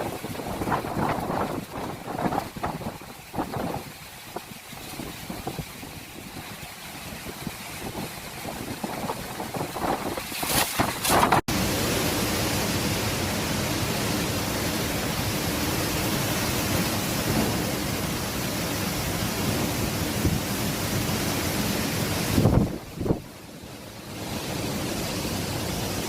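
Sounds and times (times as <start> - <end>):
heavy rain: 0.0 - 26.0
strong wind: 0.0 - 26.0.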